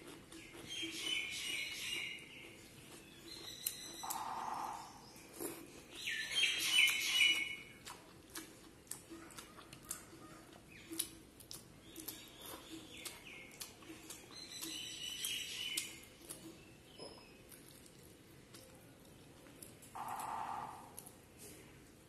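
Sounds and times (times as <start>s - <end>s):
chewing and lip smacking: 0.0s - 22.0s
fingers squishing soft food: 0.0s - 22.0s.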